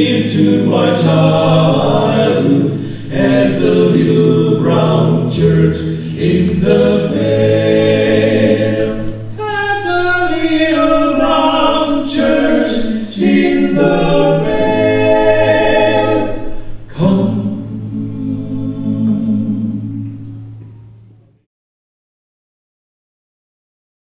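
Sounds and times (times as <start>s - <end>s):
vocal group singing in harmony: 0.0s - 20.6s.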